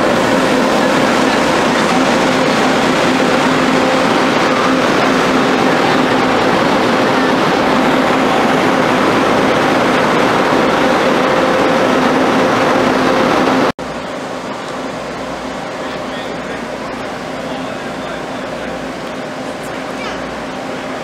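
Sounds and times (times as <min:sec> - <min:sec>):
diesel railcar passing: 0:00.0 - 0:21.0.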